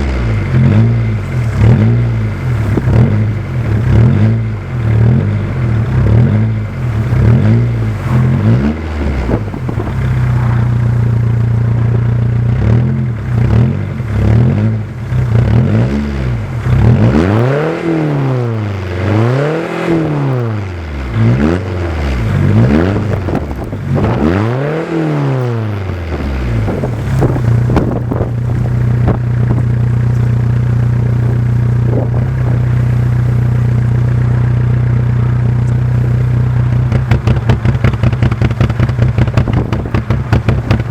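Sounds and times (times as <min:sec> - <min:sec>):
diesel engine revving and idling: 0:00.0 - 0:40.9.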